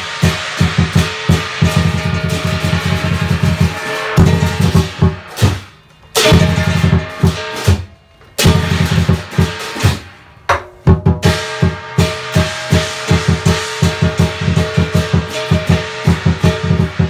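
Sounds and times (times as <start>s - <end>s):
drum beaten in fast runs: 0.0s - 10.0s, 10.6s - 17.0s
gong: 0.0s - 10.2s, 11.2s - 17.0s
cymbals clashing: 0.0s - 17.0s.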